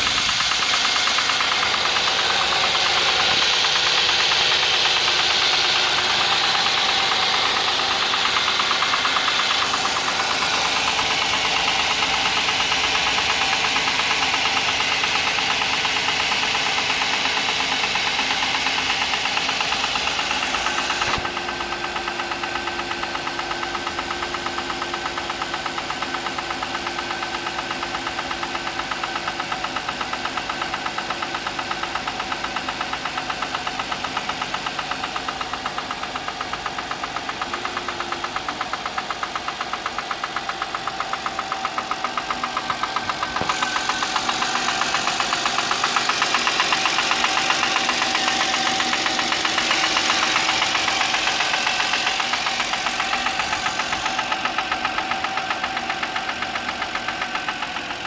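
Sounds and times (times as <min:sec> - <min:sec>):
car engine knocking: 0:00.0 - 0:58.0.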